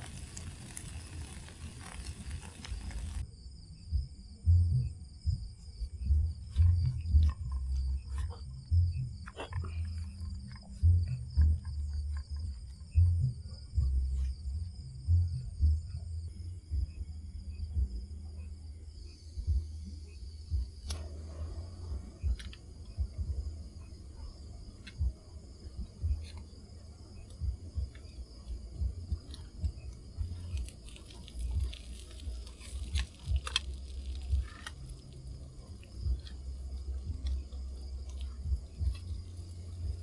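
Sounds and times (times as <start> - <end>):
insects trilling: 0.0 - 40.0
low rumble: 0.0 - 40.0.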